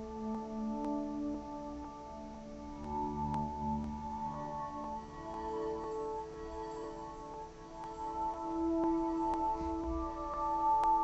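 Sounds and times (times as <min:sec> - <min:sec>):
ambient looped guitar music: 0:00.0 - 0:11.0.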